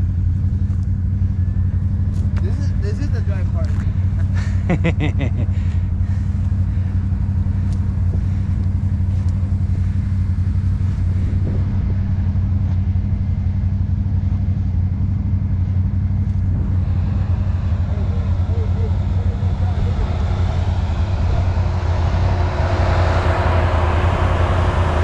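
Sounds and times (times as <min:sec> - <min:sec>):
atv engine running steadily: 0:00.0 - 0:25.0.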